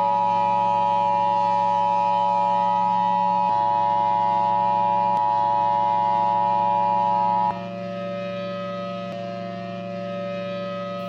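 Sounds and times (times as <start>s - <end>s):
loud two-tone alarm: 0.0s - 11.0s.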